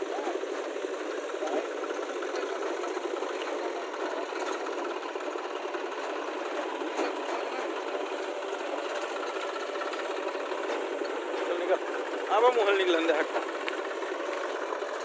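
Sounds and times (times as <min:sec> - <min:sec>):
small motor rattling: 0:00.0 - 0:15.0.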